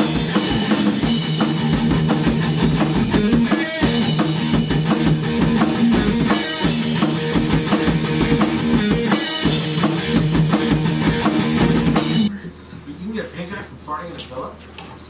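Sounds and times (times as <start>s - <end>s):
rock band playing: 0.0s - 12.3s.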